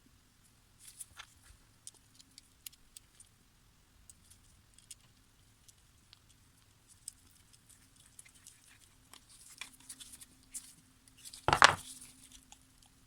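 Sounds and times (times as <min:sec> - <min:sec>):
small metal clicks and scrapes: 0:00.8 - 0:03.3, 0:04.1 - 0:13.0.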